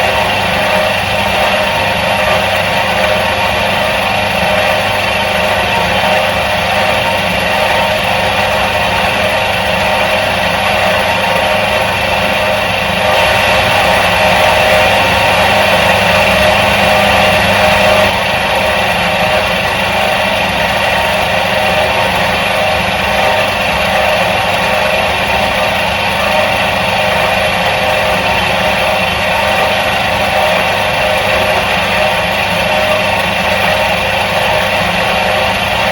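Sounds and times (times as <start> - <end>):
washing machine motor humming: 0.0 - 35.9.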